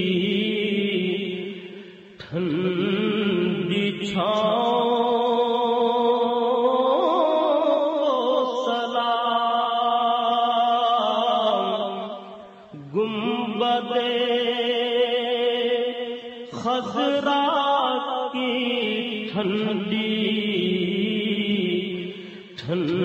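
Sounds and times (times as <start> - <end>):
person singing long held notes: 0.0 - 23.0.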